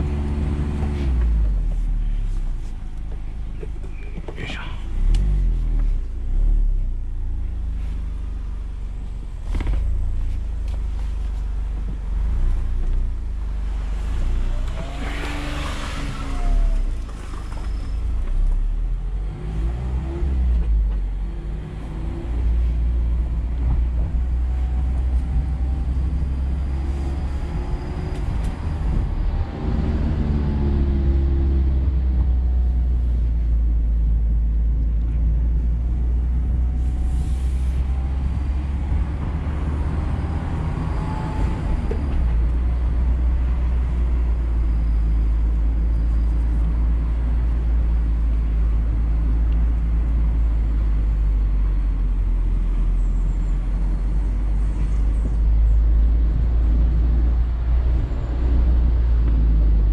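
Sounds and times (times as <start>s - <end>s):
car engine accelerating: 0.0s - 59.9s
road noise rumble: 0.0s - 59.9s.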